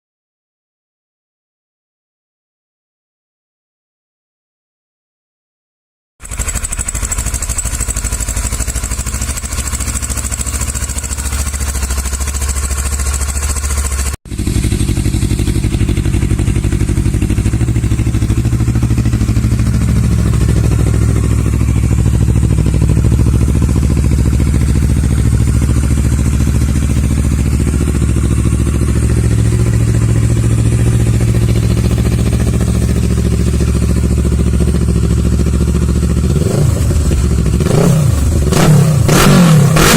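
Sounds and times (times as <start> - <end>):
deep motorcycle exhaust note: 6.2 - 39.9
motorcycle engine idling: 6.2 - 39.9.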